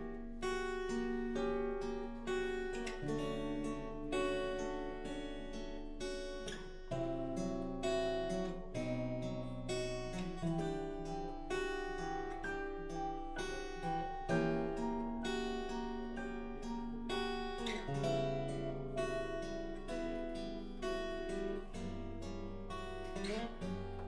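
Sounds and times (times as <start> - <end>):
plucked acoustic guitar: 0.0 - 24.0.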